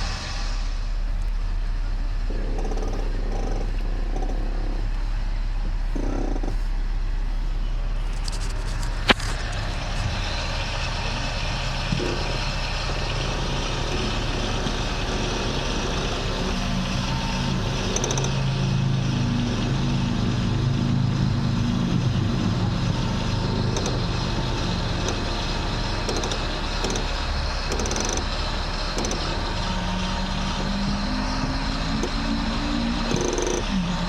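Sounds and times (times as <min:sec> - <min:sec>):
car engine idling: 0:00.0 - 0:34.0
strained steering hum: 0:00.0 - 0:34.0
sharp steering clicks: 0:01.1 - 0:34.0.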